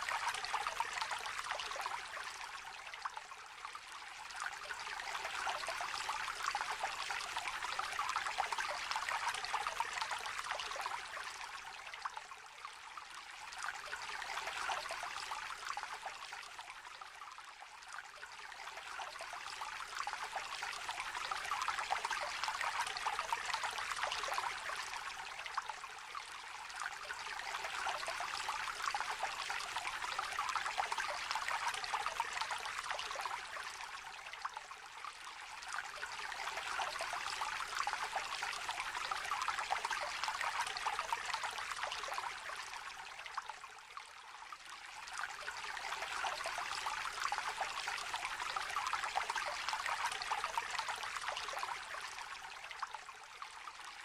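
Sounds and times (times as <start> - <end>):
brook babbling over stones: 0.0 - 54.0.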